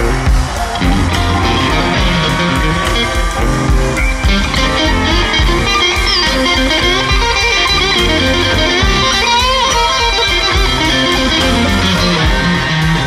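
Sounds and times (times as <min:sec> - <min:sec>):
bass: 0:00.0 - 0:09.4, 0:10.5 - 0:13.0
drums: 0:00.0 - 0:13.0
electric guitar solo with bends: 0:00.0 - 0:13.0.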